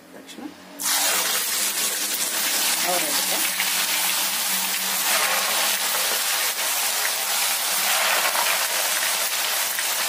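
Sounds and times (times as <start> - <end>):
beans sizzling in hot oil: 0.8 - 10.0.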